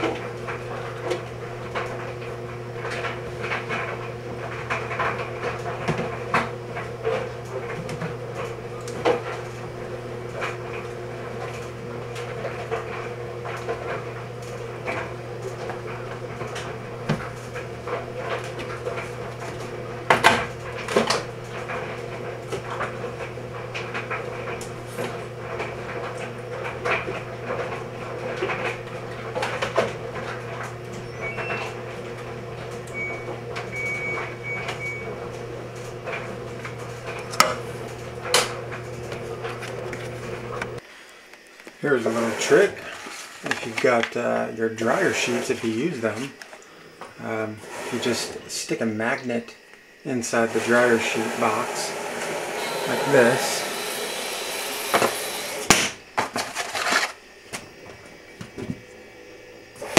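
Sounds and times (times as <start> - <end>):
laundry machine humming: 0.0 - 59.9.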